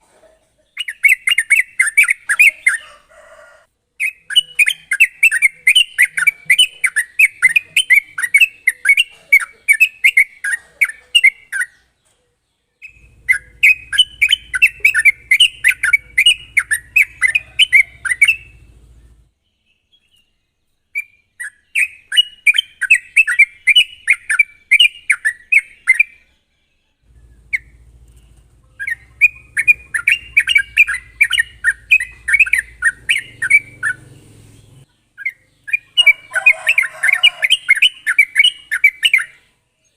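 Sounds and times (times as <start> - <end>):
bird singing rapid chattering song: 0.6 - 2.9, 4.0 - 26.4, 27.1 - 39.9.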